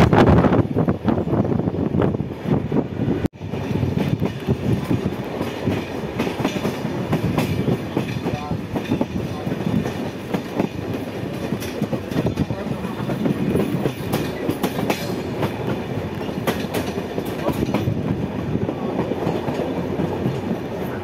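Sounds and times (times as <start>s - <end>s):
train wheels rumbling: 0.0s - 21.0s
wheels clacking over rail joints: 3.4s - 21.0s.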